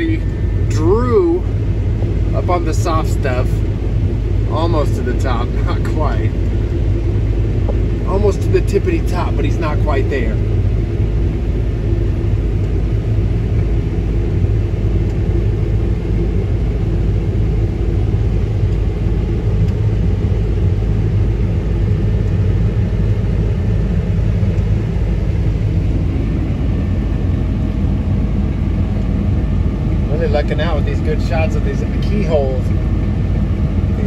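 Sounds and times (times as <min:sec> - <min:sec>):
combine harvester engine rumble: 0:00.0 - 0:34.0.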